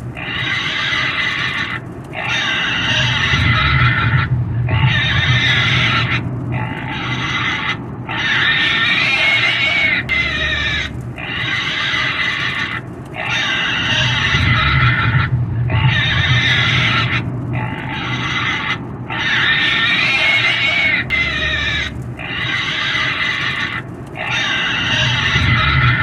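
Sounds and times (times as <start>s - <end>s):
pig squealing: 0.2s - 26.0s.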